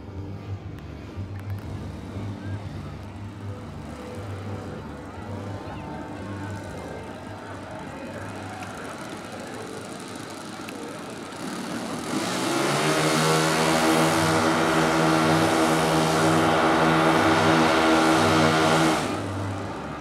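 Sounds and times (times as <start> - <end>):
model airplane engine drone: 0.0 - 20.0.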